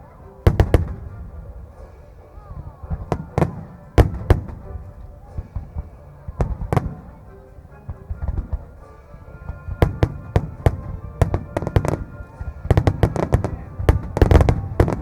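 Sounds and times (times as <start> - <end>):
music playing: 0.0 - 15.0
fireworks bursting with cracks and booms: 0.4 - 7.3, 7.9 - 15.0.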